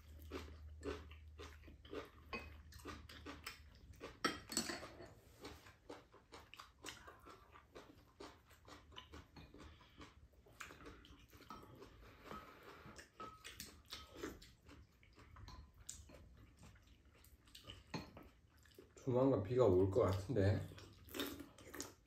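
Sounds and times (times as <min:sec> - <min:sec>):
chewing: 0:00.0 - 0:19.1, 0:20.0 - 0:22.0.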